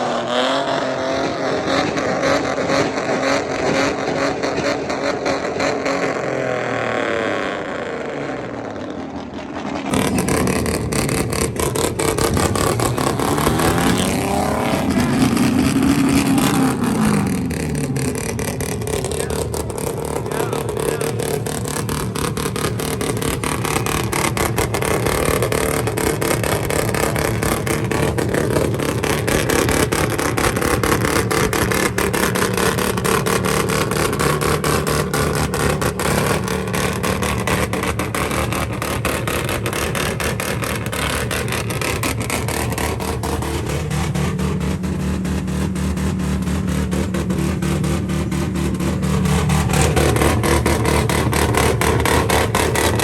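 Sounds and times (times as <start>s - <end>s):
vehicle engines droning: 0.0s - 53.0s.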